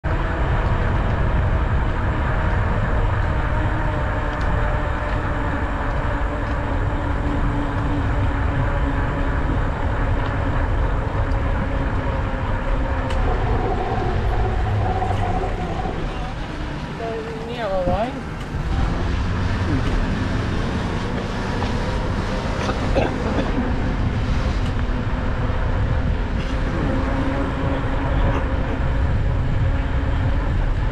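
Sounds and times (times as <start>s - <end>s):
tyres rolling on pavement: 0.0s - 30.9s
wind rushing over microphone: 0.0s - 30.9s.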